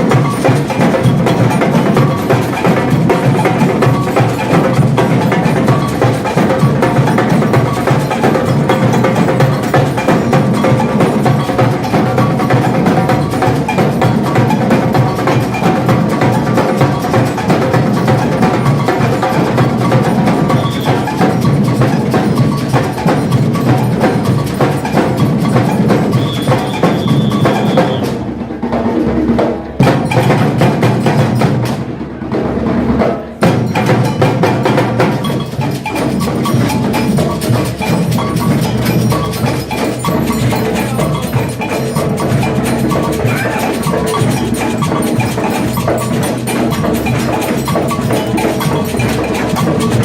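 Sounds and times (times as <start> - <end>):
street drum ensemble: 0.0 - 50.0.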